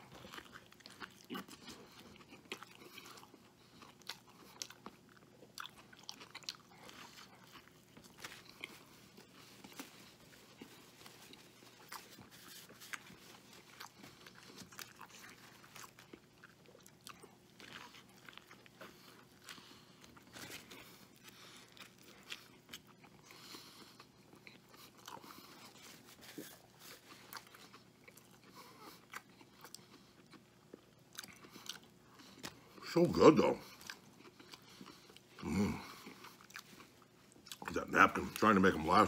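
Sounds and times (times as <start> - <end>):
chewing and biting food: 0.0 - 39.0.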